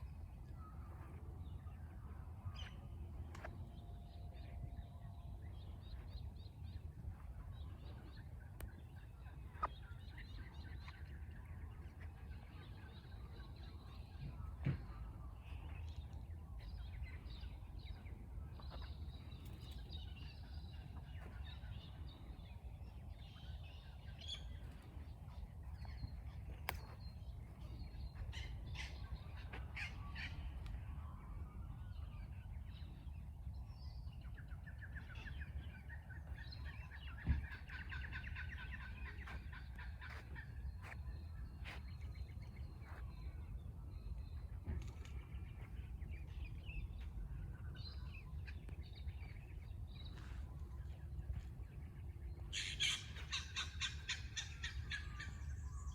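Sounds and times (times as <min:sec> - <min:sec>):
birds calling and chirping: 0:00.0 - 0:55.9
steady low rumble: 0:00.0 - 0:55.9.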